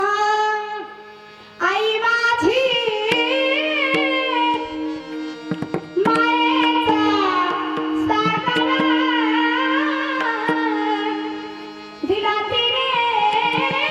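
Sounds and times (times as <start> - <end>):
ornamented vocal melody: 0.0 - 13.9.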